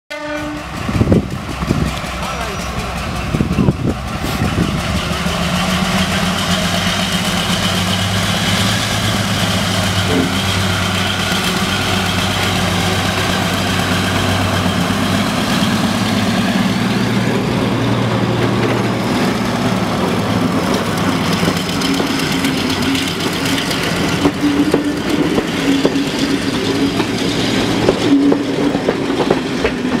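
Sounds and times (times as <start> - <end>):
diesel locomotive engine drone: 0.1 - 30.0
train wheels rolling on track: 0.1 - 30.0.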